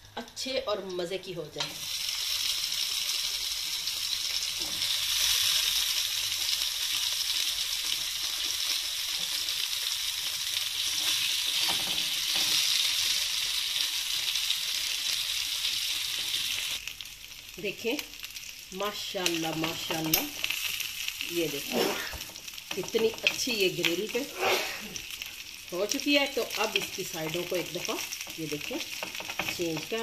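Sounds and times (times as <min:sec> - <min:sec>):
meat sizzling on a grill pan: 0:01.6 - 0:30.0.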